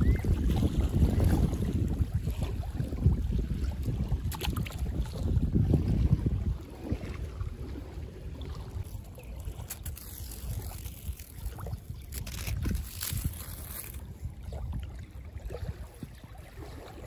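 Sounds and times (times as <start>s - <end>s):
shallow water lapping: 0.0s - 17.0s
wind on microphone: 0.0s - 17.0s.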